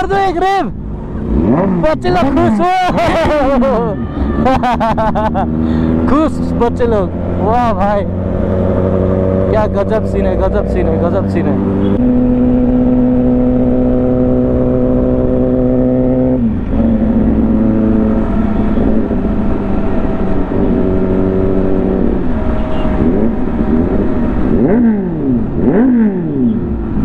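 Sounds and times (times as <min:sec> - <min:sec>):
motorcycle engine running: 0:00.7 - 0:27.0.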